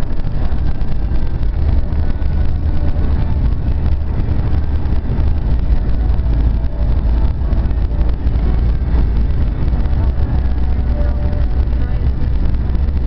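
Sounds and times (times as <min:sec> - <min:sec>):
truck road and engine noise: 0:00.0 - 0:13.0
wind buffeting microphone: 0:00.0 - 0:13.0.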